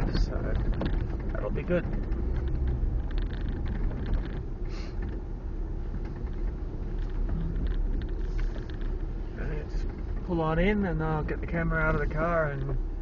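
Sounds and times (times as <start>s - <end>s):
car engine and road noise: 0.0s - 13.0s
small knocks and rattles: 0.0s - 13.0s.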